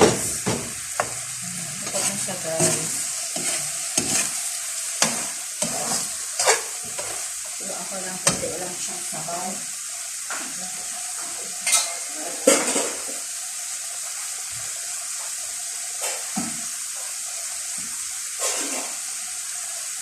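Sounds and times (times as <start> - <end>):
beans sizzling in a pan: 0.0 - 20.0.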